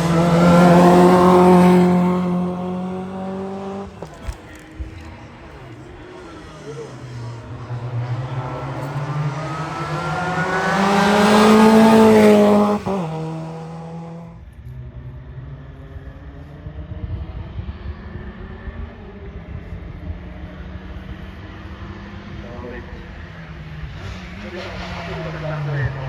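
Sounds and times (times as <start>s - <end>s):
race car passing at full throttle: 0.0s - 26.0s.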